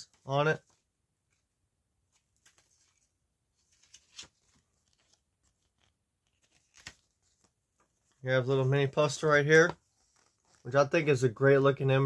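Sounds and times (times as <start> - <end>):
paper booklet rustling and tapping: 0.0 - 10.8.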